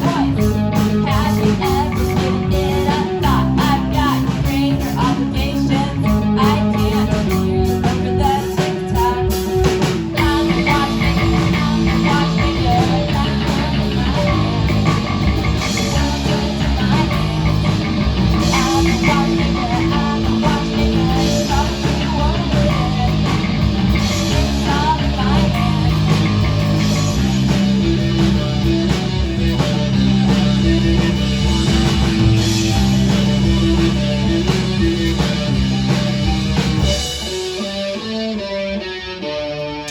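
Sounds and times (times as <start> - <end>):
electric guitar: 0.0 - 39.9
rock band playing live: 0.0 - 39.9.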